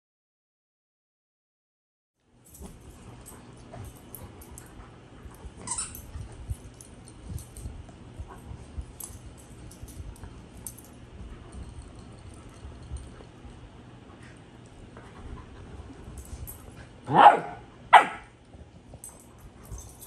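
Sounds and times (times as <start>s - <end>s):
low hum: 2.3s - 20.0s
soft low thumps of dogs moving: 2.4s - 17.0s, 18.4s - 20.0s.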